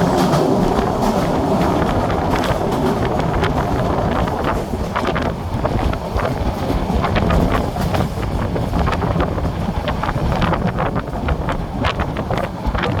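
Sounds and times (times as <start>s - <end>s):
sharp clacks and rattles: 0.0s - 13.0s
train rumbling: 0.0s - 13.0s
wind buffeting microphone: 0.0s - 13.0s.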